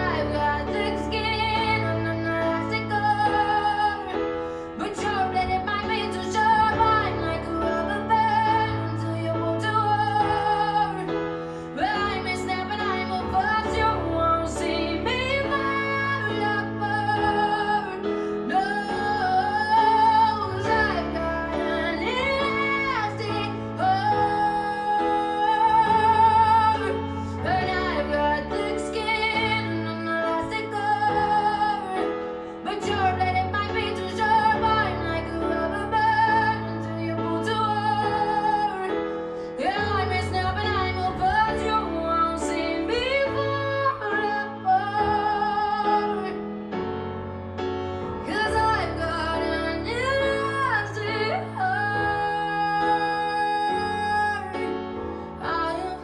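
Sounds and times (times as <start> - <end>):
woman singing with vibrato: 0.0 - 46.8, 47.9 - 56.0
piano: 0.0 - 56.0.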